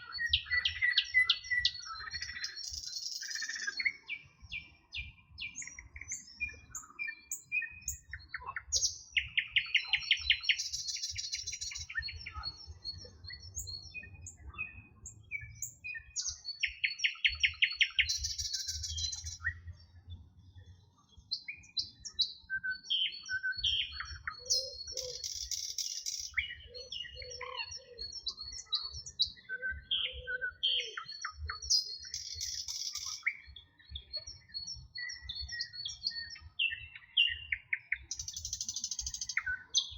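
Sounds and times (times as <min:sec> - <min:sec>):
bird trill and buzzy song: 0:00.0 - 0:39.9
wild birds singing: 0:00.0 - 0:39.9.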